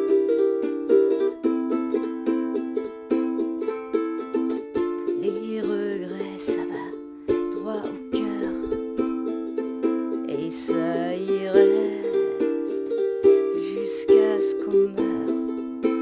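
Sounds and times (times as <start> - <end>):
ukulele strummed in chords: 0.0 - 16.0.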